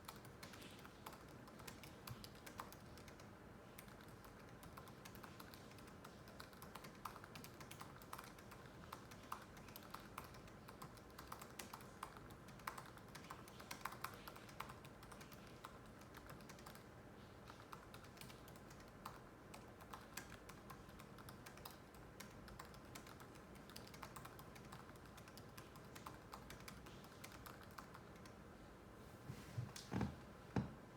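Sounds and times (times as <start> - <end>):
laptop keyboard typing: 0.0 - 28.4.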